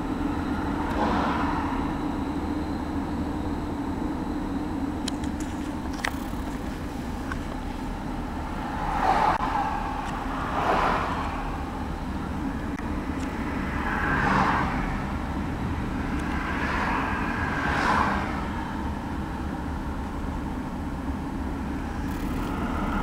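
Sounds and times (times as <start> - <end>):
car road noise and engine hum: 0.0 - 23.0.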